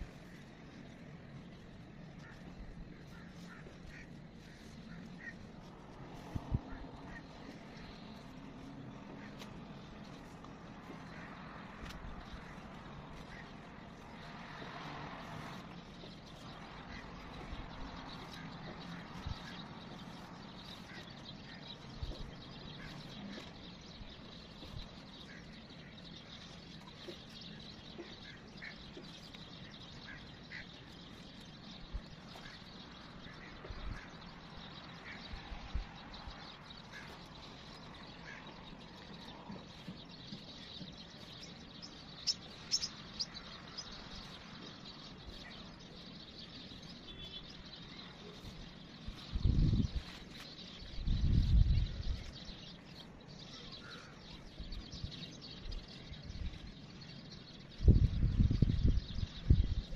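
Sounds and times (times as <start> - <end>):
distant traffic hum: 0.0 - 59.9.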